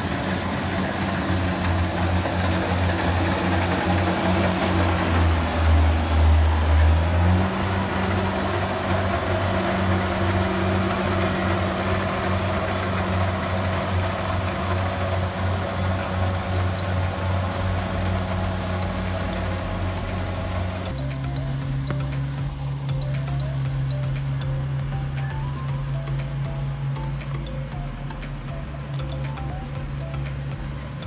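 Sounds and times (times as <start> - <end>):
combine harvester engine droning: 0.0 - 31.0.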